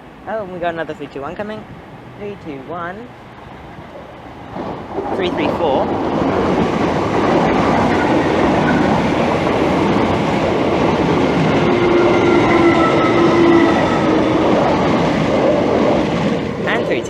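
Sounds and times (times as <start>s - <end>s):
train wheels rushing on rail: 3.2s - 17.0s.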